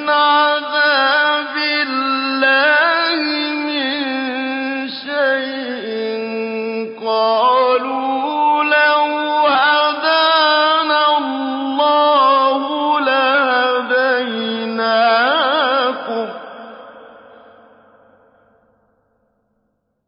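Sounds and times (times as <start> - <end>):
man chanting melodically: 0.0 - 17.4.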